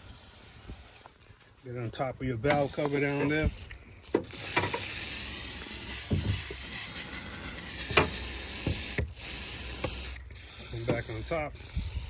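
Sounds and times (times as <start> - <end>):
aerosol can spraying: 0.0 - 1.1, 2.5 - 12.0.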